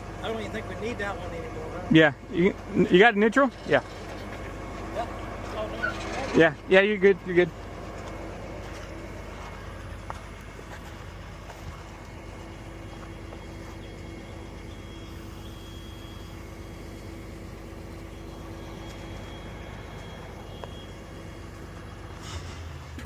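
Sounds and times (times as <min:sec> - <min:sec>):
faint steady whine: 0:00.0 - 0:23.0
truck engine running: 0:00.0 - 0:23.0.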